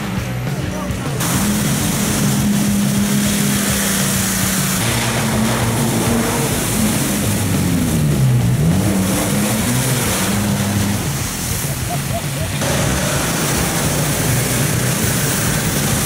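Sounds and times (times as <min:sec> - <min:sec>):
jeep engine running: 0:00.0 - 0:16.0
steady hiss: 0:01.1 - 0:16.0.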